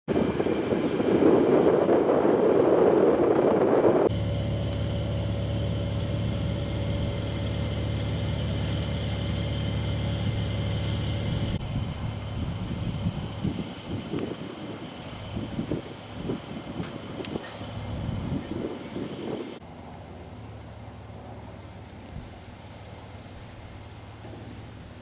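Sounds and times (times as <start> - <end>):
low engine hum: 0.1 - 25.0.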